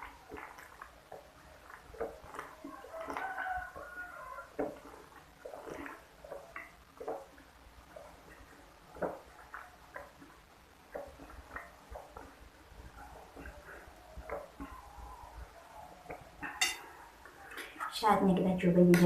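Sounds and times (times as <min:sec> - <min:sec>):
mouth chewing sounds: 0:00.0 - 0:17.9.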